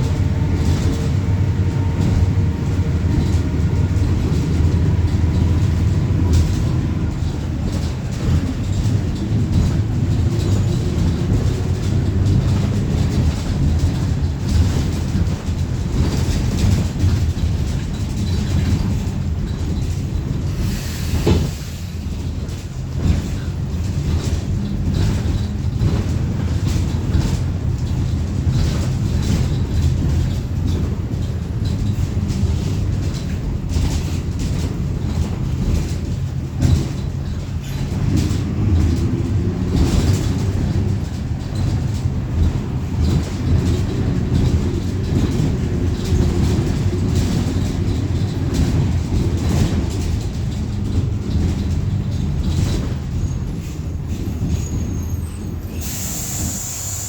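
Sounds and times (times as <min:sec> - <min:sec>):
rattles and knocks: 0:00.0 - 0:20.6, 0:21.2 - 0:55.4
bus engine and road rumble: 0:00.0 - 0:57.0.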